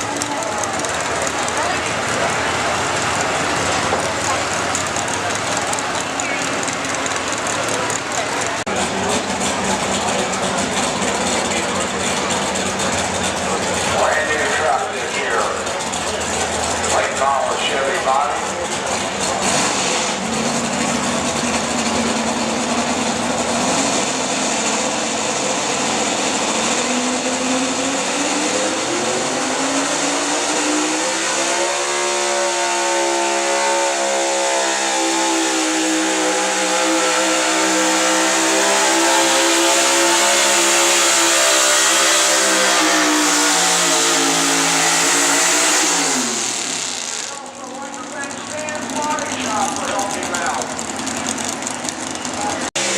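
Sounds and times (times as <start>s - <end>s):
truck engine revving under load: 0.0s - 52.9s.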